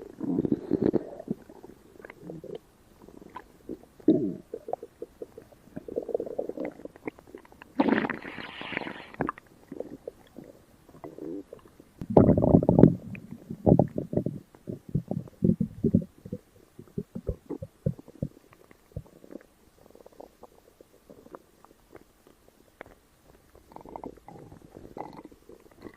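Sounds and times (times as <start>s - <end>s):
stomach rumbling and gurgling: 0.0s - 25.9s.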